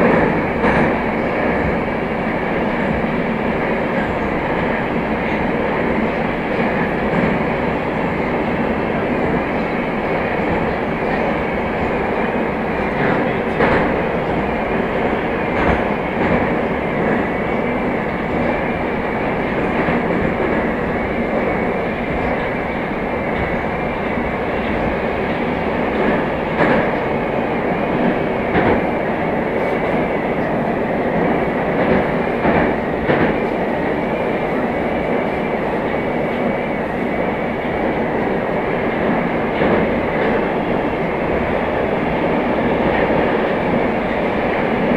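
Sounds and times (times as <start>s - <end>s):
rail clicks: 0.0s - 44.9s
subway train rumbling: 0.0s - 44.9s.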